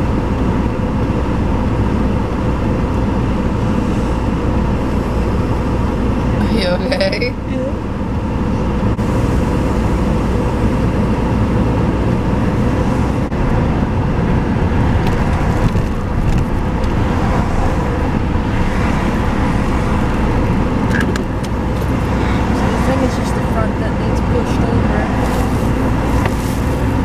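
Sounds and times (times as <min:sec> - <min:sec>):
car road and wind noise: 0:00.0 - 0:27.0.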